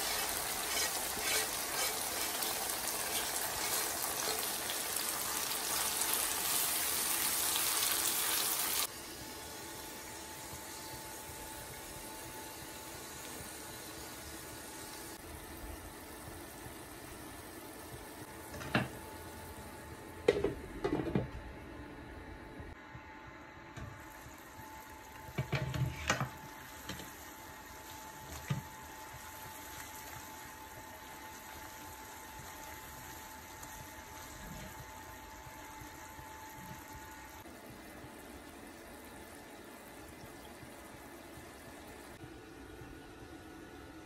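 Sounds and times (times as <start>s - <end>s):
food simmering in a wok: 0.0s - 20.0s, 24.0s - 44.0s.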